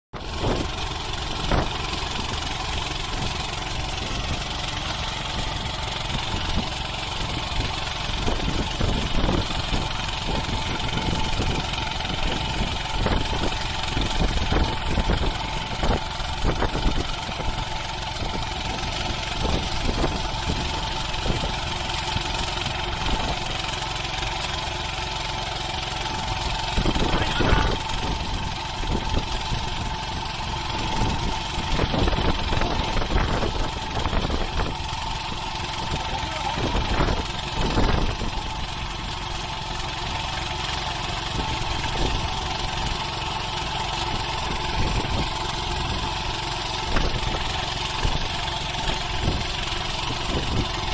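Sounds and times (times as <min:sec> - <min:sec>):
small engine running: 0:00.1 - 0:50.9.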